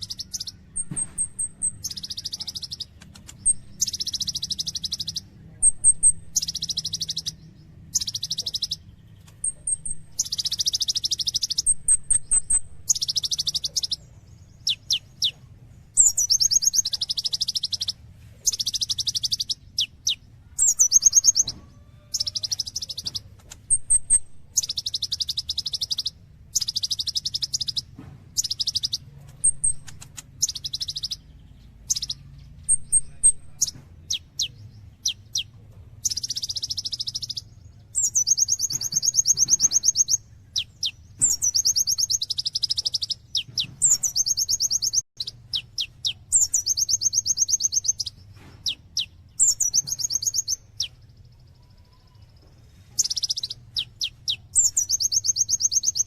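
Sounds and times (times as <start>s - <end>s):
bird chirps: 0.0s - 56.0s
bird singing buzzy trills: 0.0s - 56.0s.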